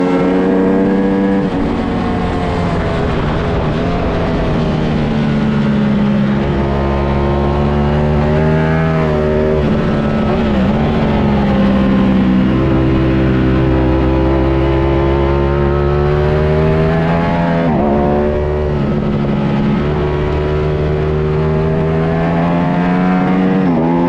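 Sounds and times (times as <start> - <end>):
motorcycle engine revving: 0.0 - 24.0
wind rush: 0.0 - 24.0.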